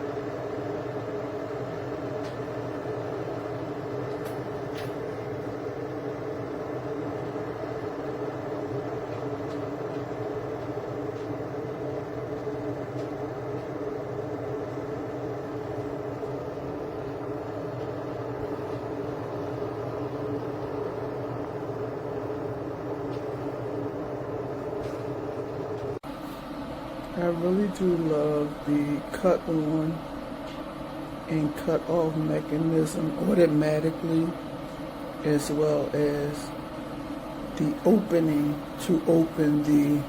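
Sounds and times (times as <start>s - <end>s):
electric kettle heating water: 0.0s - 40.0s.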